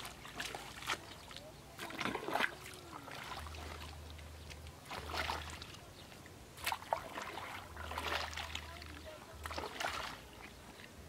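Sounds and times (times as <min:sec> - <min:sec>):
pole splashing in muddy water: 0:00.0 - 0:10.9.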